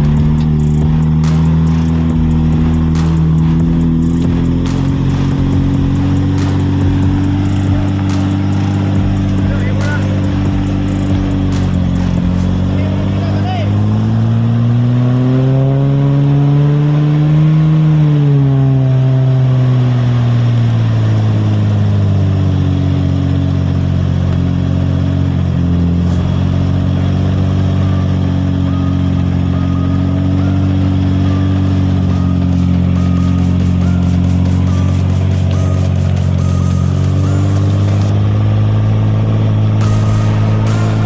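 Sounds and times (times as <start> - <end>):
engine revving: 0.0 - 41.0.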